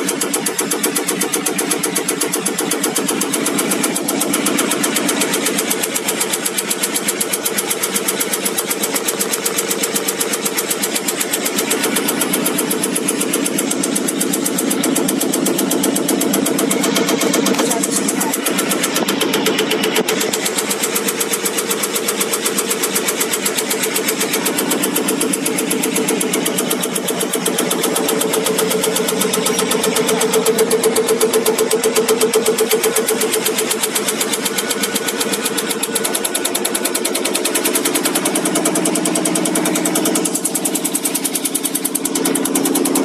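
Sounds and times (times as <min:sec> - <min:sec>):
injector rapid ticking: 0:00.0 - 0:43.0
pump drone: 0:00.0 - 0:43.0.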